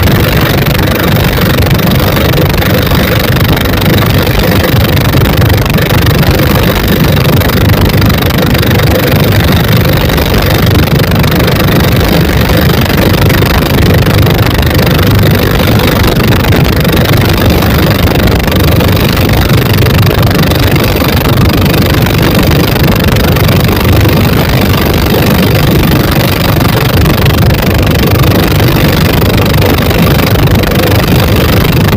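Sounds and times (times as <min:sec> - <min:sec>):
boat diesel engines running: 0:00.0 - 0:31.9.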